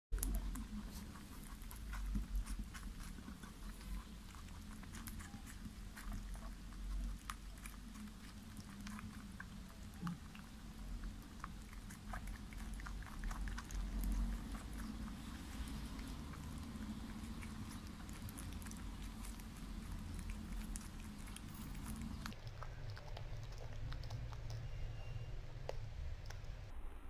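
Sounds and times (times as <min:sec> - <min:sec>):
rabbit chewing strawberry: 0:00.1 - 0:26.7.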